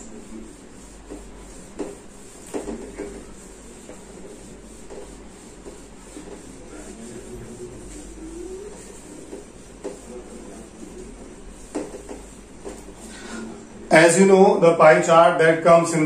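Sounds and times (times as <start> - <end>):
duster wiping a whiteboard: 0.0 - 15.0.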